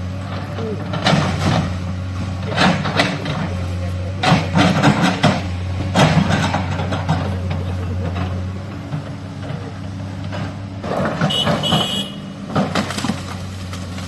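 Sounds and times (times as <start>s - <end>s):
diesel engine running: 0.0s - 14.0s
knocks and clatter: 0.2s - 14.0s.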